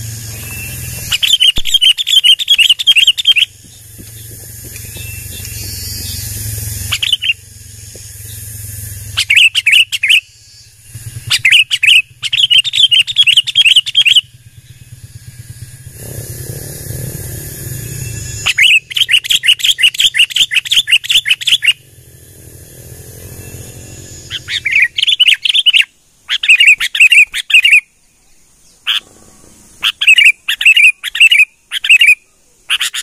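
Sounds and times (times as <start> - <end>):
low steady rumble: 0.0 - 26.3, 27.9 - 30.0
bird chattering call: 0.0 - 27.9, 28.8 - 33.0.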